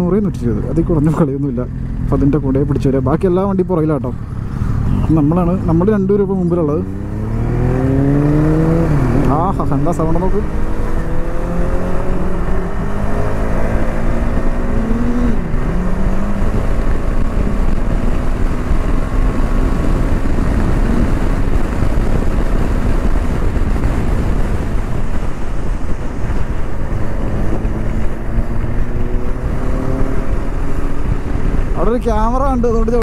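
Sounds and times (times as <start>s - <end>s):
motorcycles at highway speed: 0.0s - 33.0s
wind rushing over microphone: 0.0s - 33.0s.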